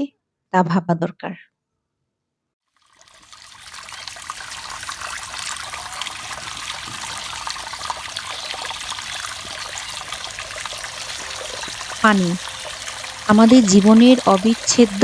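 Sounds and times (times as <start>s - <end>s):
small water splashes: 2.8s - 15.0s
water trickling: 2.8s - 15.0s.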